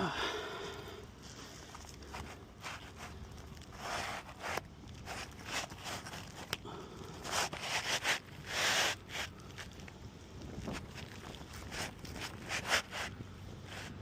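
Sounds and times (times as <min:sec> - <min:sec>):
shingles scraping and rustling: 0:01.2 - 0:06.6, 0:07.2 - 0:14.0.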